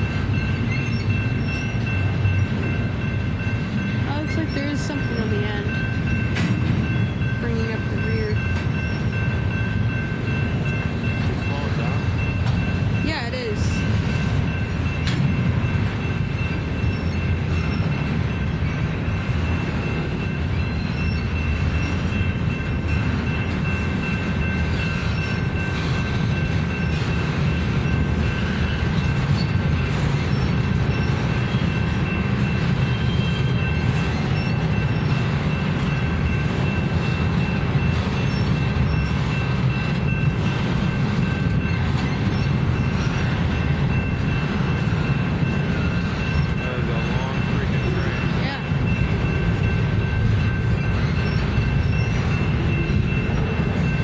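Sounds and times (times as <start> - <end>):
train cars rumbling on rails: 0.0 - 54.0.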